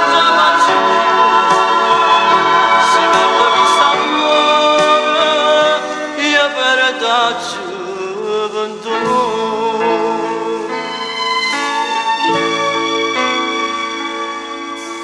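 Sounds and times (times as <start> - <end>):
instrumental pop music: 0.0 - 15.0.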